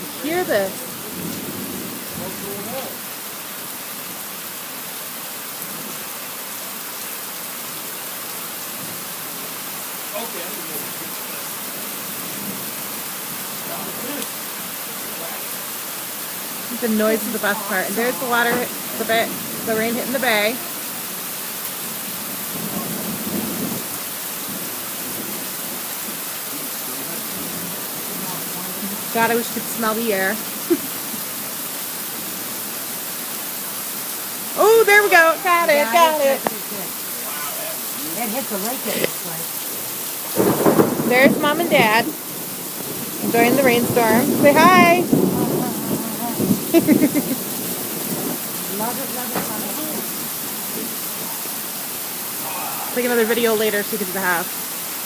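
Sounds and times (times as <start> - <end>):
heavy rain downpour: 0.0 - 55.0.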